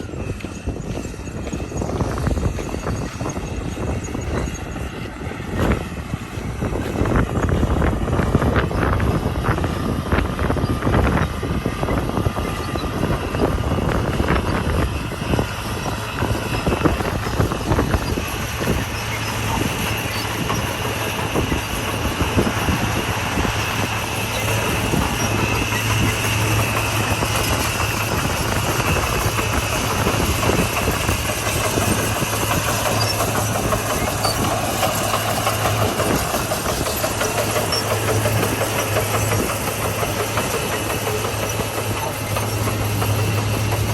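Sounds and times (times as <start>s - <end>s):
diesel engine drone: 0.0s - 43.9s
steel tracks clanking: 0.0s - 43.9s.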